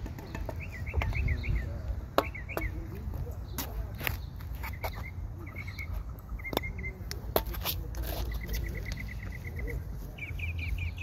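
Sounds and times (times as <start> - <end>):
bird chirping: 0.0 - 7.3, 8.0 - 11.0.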